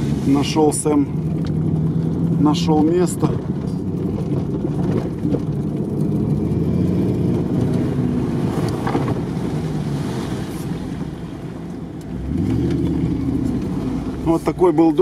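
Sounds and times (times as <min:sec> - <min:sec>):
car engine running: 0:00.0 - 0:15.0
water rushing and sloshing: 0:00.0 - 0:15.0
water splashing over windshield: 0:00.0 - 0:15.0.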